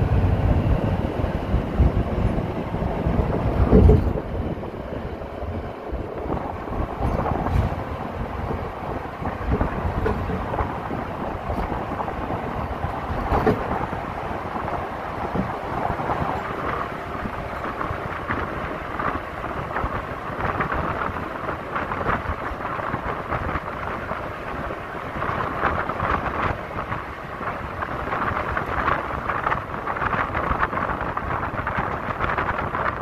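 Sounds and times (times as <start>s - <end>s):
truck road rumble: 0.0s - 33.0s
wind buffeting microphone: 0.0s - 33.0s.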